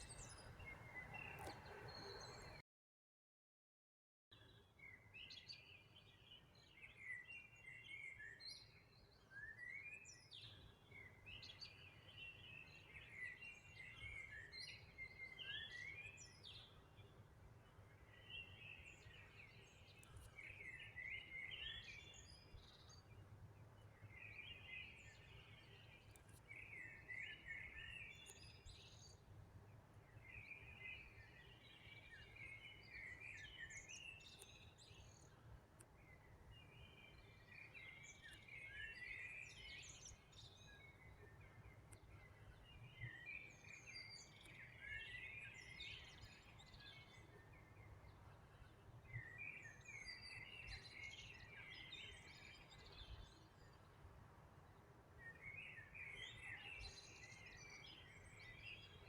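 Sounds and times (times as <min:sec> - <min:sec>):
songbird chirping: 0:00.0 - 0:02.6, 0:04.4 - 0:59.0.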